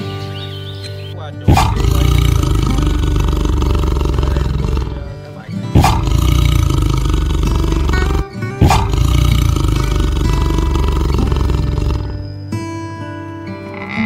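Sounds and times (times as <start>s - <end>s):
background music: 0.0s - 14.0s
tiger roaring: 1.5s - 12.4s, 13.6s - 14.0s.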